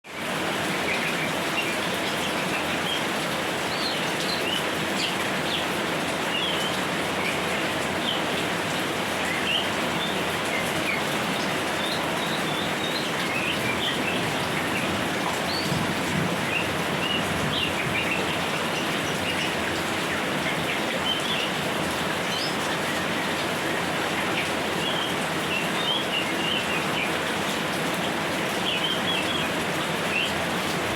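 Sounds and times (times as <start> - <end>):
light rain falling: 0.1 - 30.9.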